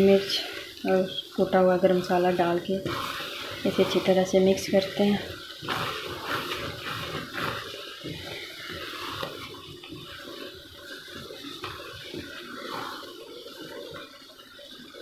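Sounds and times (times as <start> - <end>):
wooden spoon stirring thick dal: 0.0 - 15.0.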